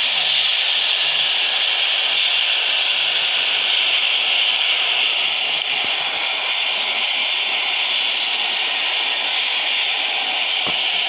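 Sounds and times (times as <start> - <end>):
subway train wheels on rails: 0.0 - 11.0.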